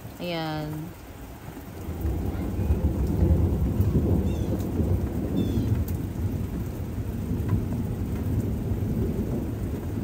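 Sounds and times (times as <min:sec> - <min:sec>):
steady rain: 0:00.0 - 0:10.0
thunder rumbling: 0:01.4 - 0:10.0.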